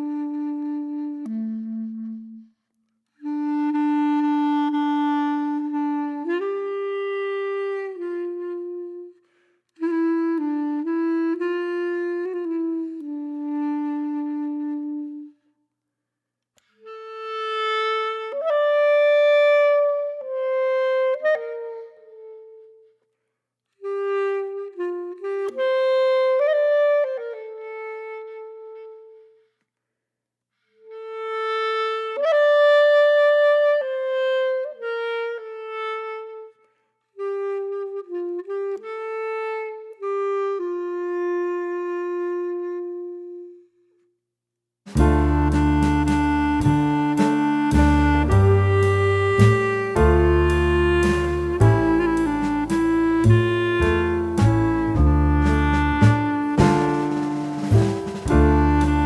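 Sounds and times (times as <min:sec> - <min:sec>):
solo woodwind melody: 0:00.0 - 0:15.5, 0:16.6 - 0:23.0, 0:23.8 - 0:29.5, 0:30.9 - 0:43.8, 0:44.9 - 0:59.0.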